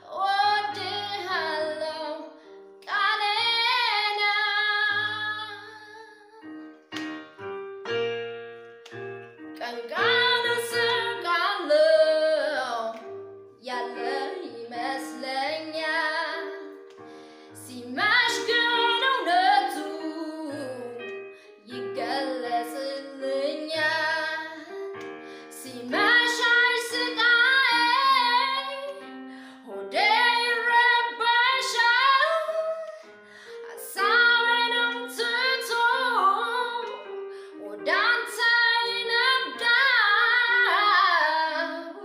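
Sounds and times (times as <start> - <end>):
woman singing: 0.0 - 6.5, 9.6 - 16.8, 17.6 - 42.0
instrumental backing music: 0.0 - 42.0.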